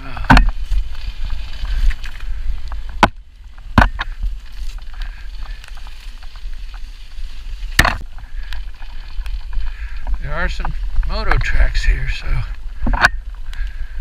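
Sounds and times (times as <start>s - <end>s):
bike jolting over rocks: 0.0s - 14.0s.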